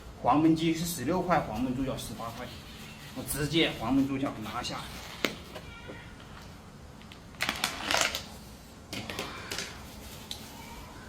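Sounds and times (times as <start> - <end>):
crinkly plastic rustling: 1.6 - 11.0.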